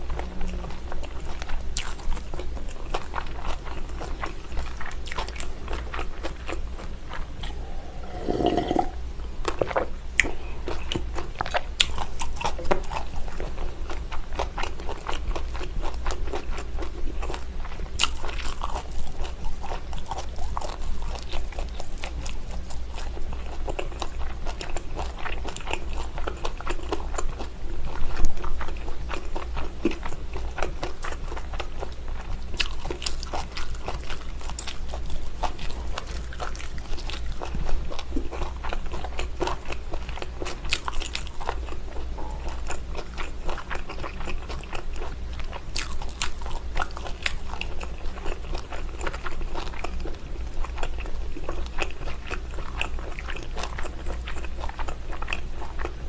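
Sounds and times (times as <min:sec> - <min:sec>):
wet chewing and mouth clicks: 0:09.4 - 0:56.0.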